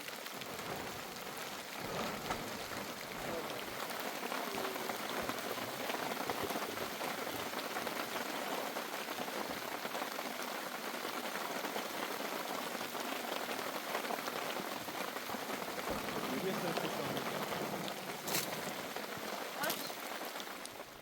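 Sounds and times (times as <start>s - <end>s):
rain falling: 0.0s - 21.0s
raindrops hitting a surface: 0.0s - 21.0s.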